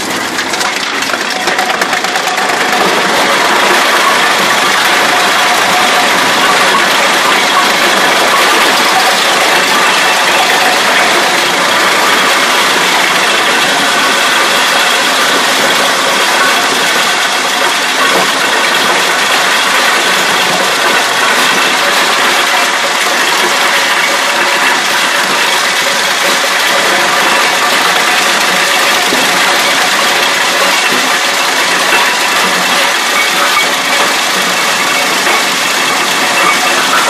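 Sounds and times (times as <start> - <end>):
tractor engine: 0.0 - 37.0
wood chipper chipping branches: 0.0 - 37.0.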